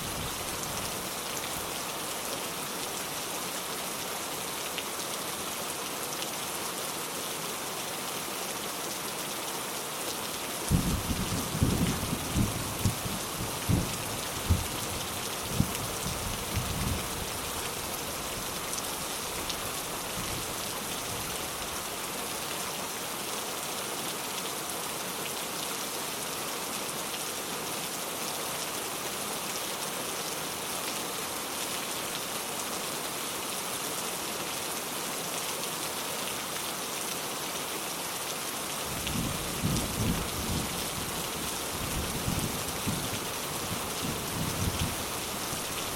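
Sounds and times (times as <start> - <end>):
steady rain hissing: 0.0 - 45.9.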